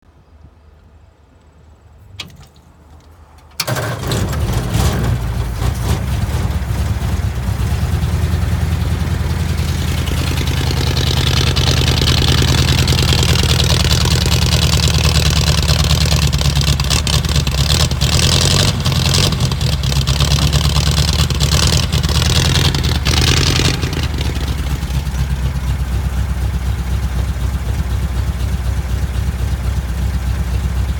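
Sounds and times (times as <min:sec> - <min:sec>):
car engine starting and idling: 0:02.1 - 0:30.9.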